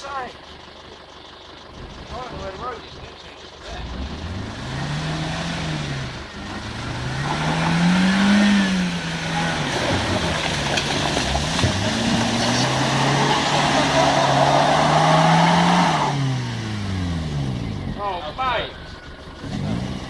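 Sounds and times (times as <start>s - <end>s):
off-road engine revving under load: 1.7s - 20.0s.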